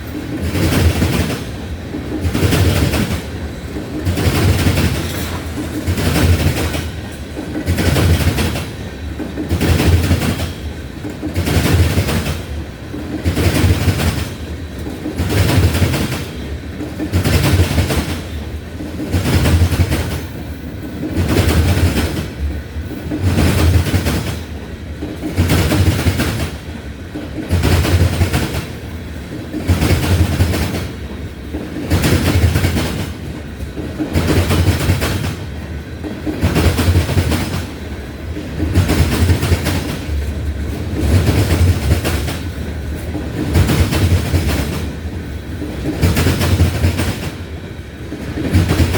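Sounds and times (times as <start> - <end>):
train wheels clattering over rail joint: 0.0 - 45.0, 45.6 - 47.5, 48.1 - 48.9.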